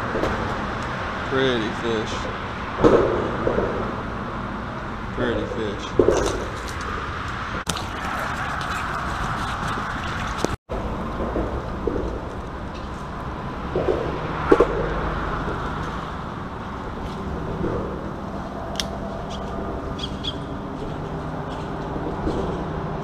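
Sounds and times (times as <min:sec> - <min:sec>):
outdoor rush: 0:00.0 - 0:23.0.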